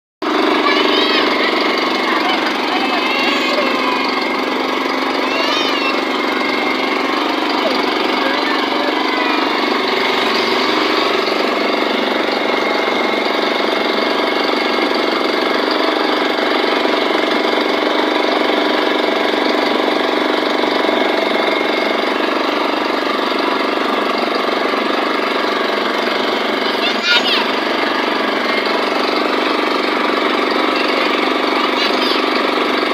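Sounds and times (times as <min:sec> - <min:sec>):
motorboat engine running: 0:00.2 - 0:32.9.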